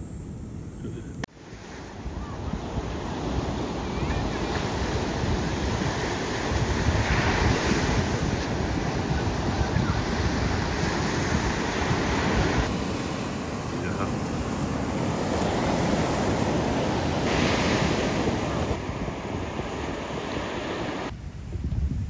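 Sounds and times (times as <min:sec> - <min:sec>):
wind buffeting microphone: 0:00.9 - 0:22.0
surf breaking on beach: 0:01.3 - 0:21.1.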